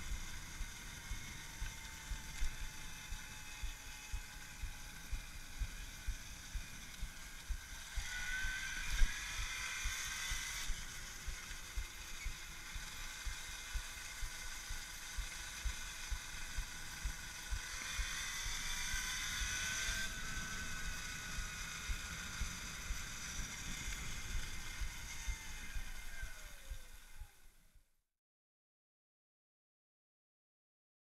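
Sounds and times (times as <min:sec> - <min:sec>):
wind noise: 0:00.0 - 0:27.2
electric motor whining: 0:00.0 - 0:27.6.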